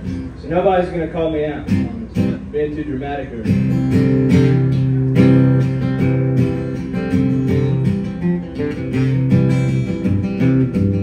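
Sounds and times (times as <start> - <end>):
fingerpicked guitar: 0.0 - 11.0.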